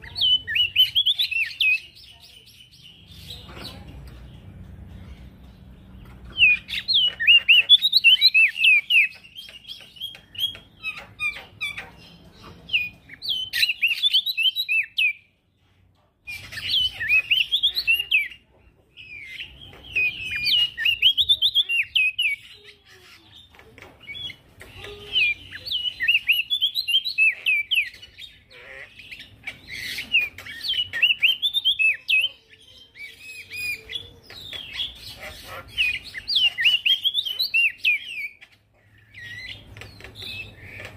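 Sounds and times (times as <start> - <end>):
songbird singing rapid chirps: 0.0 - 40.9.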